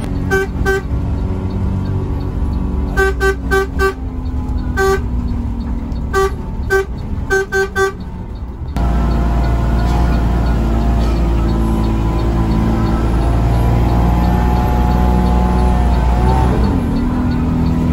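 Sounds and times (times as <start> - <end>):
bus horn tooting: 0.0 - 1.1, 2.7 - 5.4, 6.0 - 8.2, 8.8 - 17.9
bus engine: 0.0 - 17.9.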